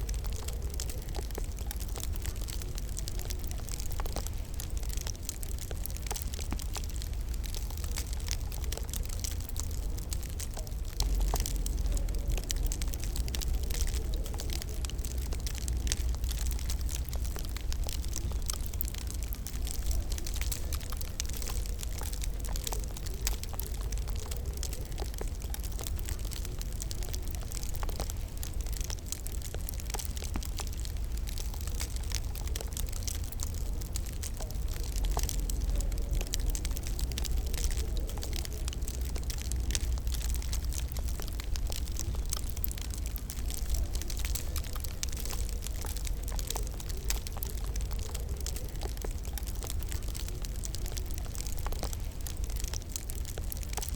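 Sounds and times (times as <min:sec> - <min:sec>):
low fire rumble: 0:00.0 - 0:53.9
wood fire crackling: 0:00.0 - 0:53.9.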